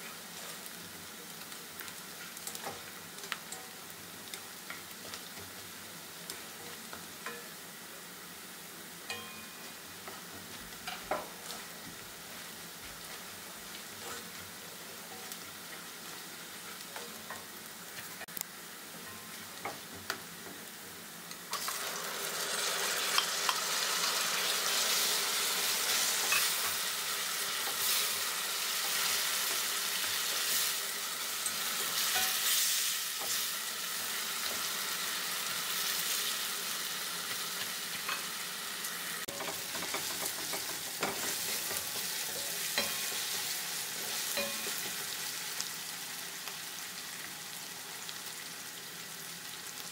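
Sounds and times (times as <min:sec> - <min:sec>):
vegetables sizzling in oil: 0:00.0 - 0:49.9.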